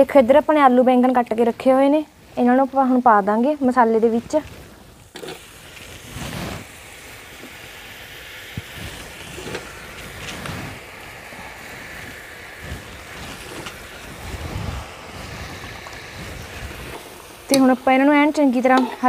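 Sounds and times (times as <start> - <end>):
vegetables sizzling in hot oil: 2.4 - 19.0.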